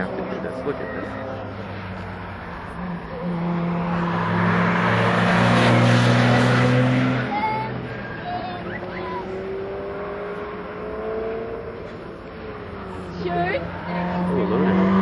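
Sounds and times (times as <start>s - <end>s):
race car engine passing: 0.0s - 15.0s.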